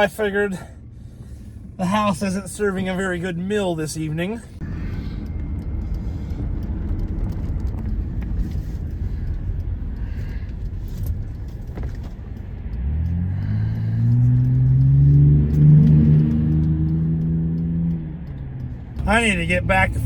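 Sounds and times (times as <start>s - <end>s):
van engine accelerating: 0.0s - 20.0s.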